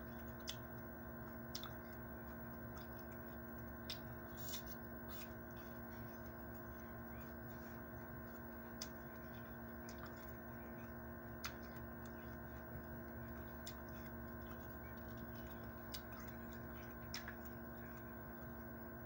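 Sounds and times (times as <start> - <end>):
person chewing fruit: 0.0 - 18.9
electrical hum: 0.0 - 19.0.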